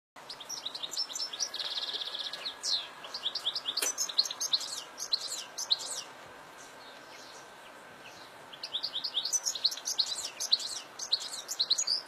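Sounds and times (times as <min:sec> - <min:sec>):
goldfinch singing: 0:00.2 - 0:12.0.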